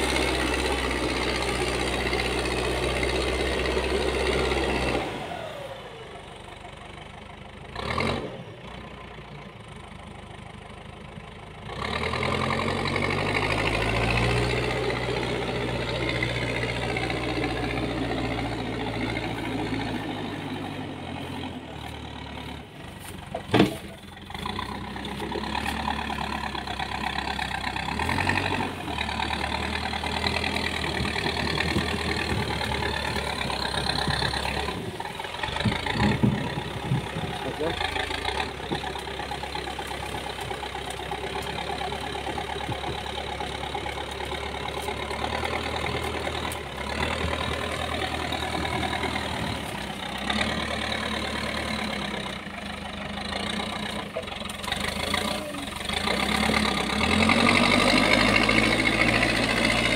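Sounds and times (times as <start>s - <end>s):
diesel loader engine running: 0.0s - 59.9s.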